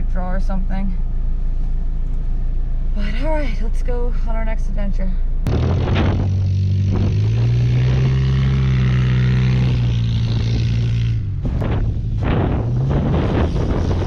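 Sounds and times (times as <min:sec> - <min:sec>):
car engine running while driving: 0:00.0 - 0:14.0.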